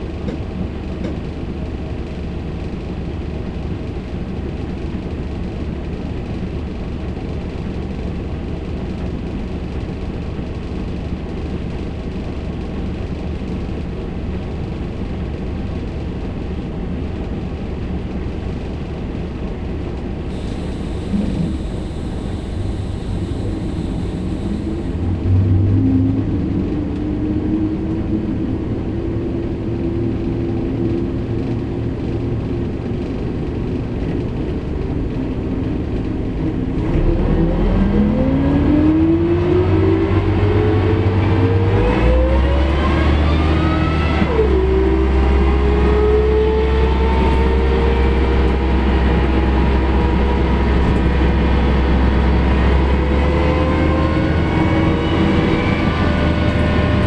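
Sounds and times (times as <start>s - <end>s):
bus diesel engine rumble: 0.0s - 57.0s.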